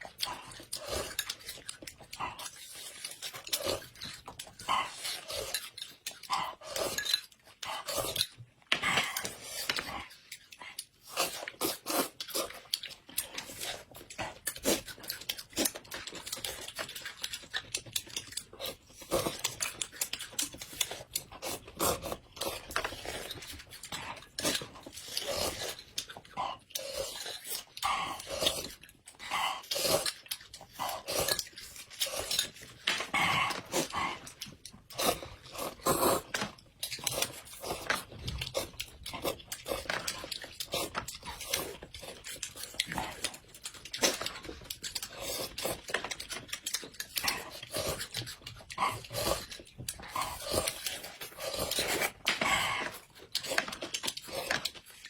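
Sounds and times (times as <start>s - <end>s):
chewing and crunching: 0.0s - 55.0s.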